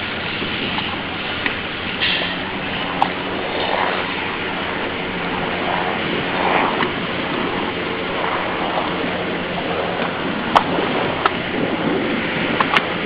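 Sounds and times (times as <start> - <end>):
jet ski engine droning: 0.0 - 13.0
rushing water: 0.0 - 13.0
wind: 0.0 - 13.0.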